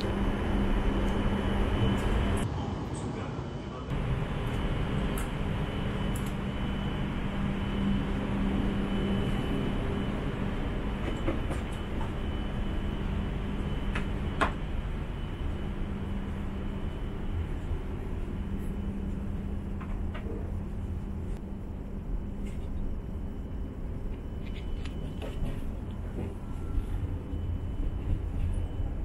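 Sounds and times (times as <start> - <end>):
train interior hum: 0.0 - 29.0
low steady tone: 3.8 - 29.0.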